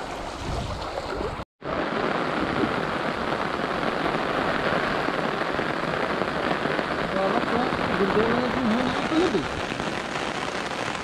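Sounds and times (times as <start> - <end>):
water gushing through a channel: 0.0 - 10.2
rain falling: 0.0 - 11.0.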